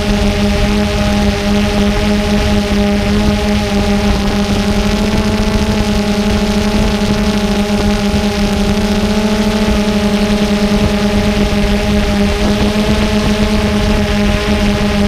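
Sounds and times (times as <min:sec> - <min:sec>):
drone propellers humming: 0:00.0 - 0:15.0
wind rumble on microphone: 0:00.0 - 0:15.0.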